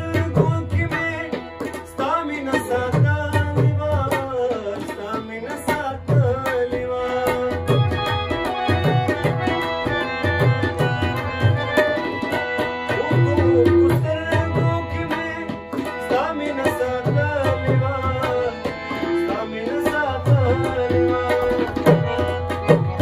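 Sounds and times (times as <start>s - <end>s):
harmonium chords: 0.0s - 23.0s
man singing: 0.0s - 23.0s.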